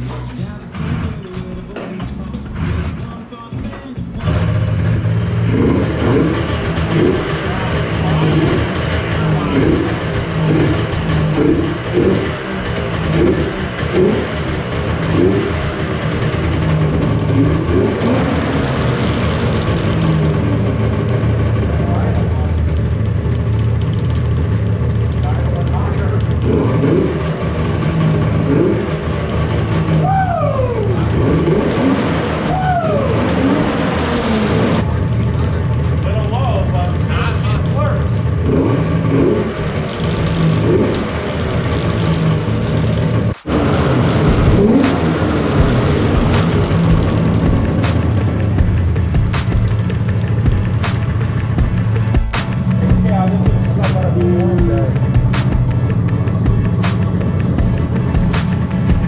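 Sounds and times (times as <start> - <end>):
snowmobile engine revving: 4.2 - 59.0.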